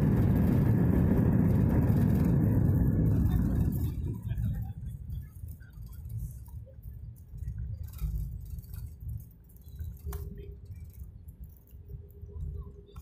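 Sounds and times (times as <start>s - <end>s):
low rumble of wheels on runway: 0.0s - 13.0s.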